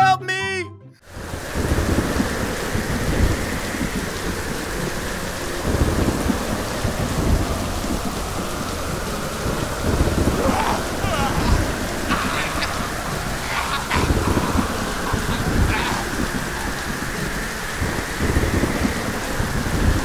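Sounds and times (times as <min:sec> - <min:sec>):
heavy rain: 0:01.0 - 0:20.0
thunder rumbling: 0:01.0 - 0:20.0.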